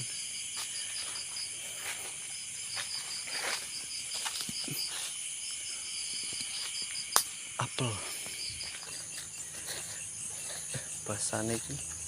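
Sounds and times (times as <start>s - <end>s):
crickets and insects chirring: 0.0s - 12.0s
insect pulsing chirp: 0.0s - 12.0s.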